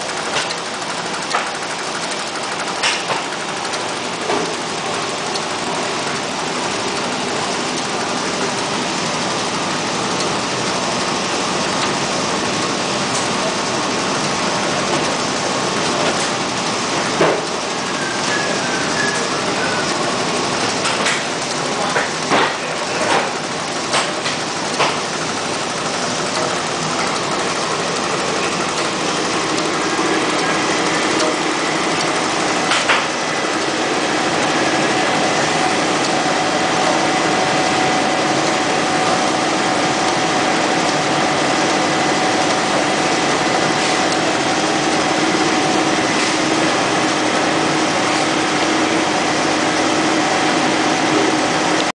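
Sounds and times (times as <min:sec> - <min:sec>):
printing press running: 0:00.0 - 0:51.9
steady machine whine: 0:00.0 - 0:51.9.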